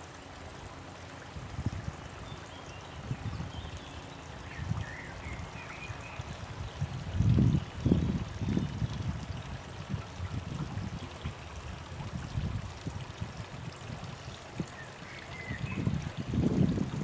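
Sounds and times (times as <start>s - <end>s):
waterfall splashing into pond: 0.0s - 17.0s
wind rumble on microphone: 1.3s - 17.0s.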